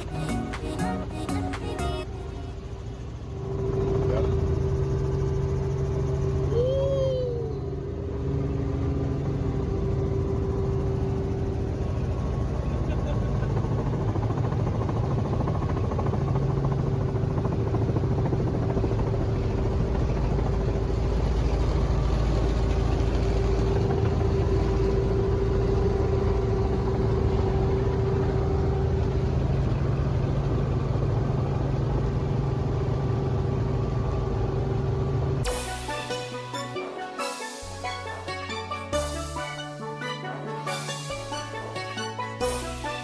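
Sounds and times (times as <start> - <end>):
helicopter engine and rotors: 0.0 - 43.0.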